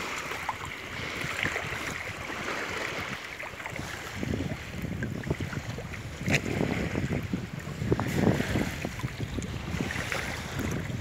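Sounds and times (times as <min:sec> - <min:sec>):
small waves lapping: 0:00.0 - 0:11.0
wind buffeting microphone: 0:00.0 - 0:11.0.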